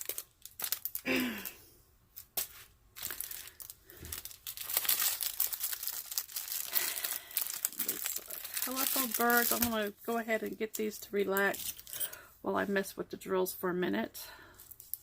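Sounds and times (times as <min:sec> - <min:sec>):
plastic packaging crinkling: 0:00.0 - 0:12.1, 0:14.6 - 0:15.0.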